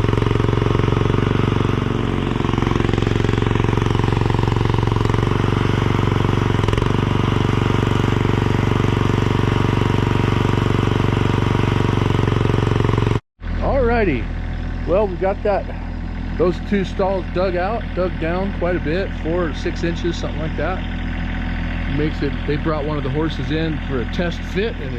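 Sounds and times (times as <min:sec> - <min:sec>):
skid steer engine running: 0:00.0 - 0:24.9.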